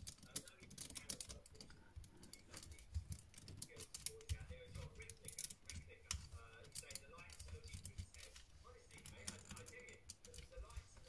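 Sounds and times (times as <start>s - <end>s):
plastic parts clicking: 0.0s - 10.8s.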